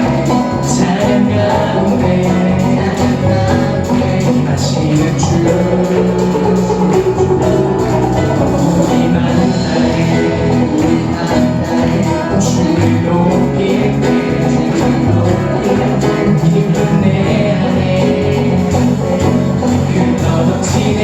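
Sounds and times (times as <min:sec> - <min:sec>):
band playing: 0:00.0 - 0:21.0
drum kit steady beat: 0:00.0 - 0:21.0.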